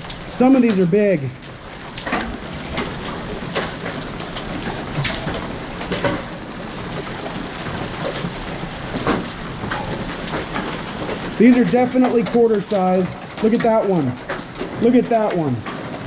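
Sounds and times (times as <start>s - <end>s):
hailstones striking concrete: 0.0s - 16.0s
heavy rain pouring: 0.0s - 16.0s.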